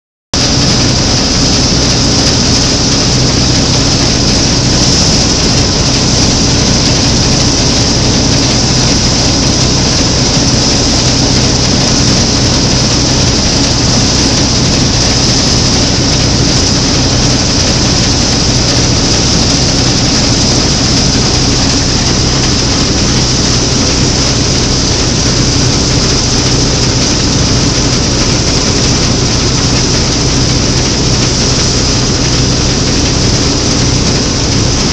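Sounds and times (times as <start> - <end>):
combine harvester engine drone: 0.4 - 34.9
steady high hiss: 0.4 - 34.9.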